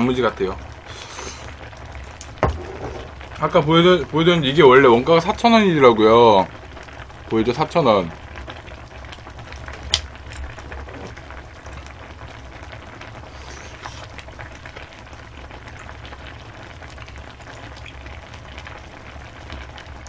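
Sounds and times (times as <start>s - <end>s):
pot simmering with crackling bubbles: 0.0s - 20.0s.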